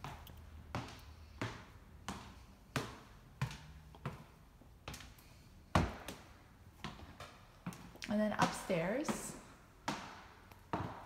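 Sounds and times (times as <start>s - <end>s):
footsteps climbing wooden stairs: 0.0s - 11.0s.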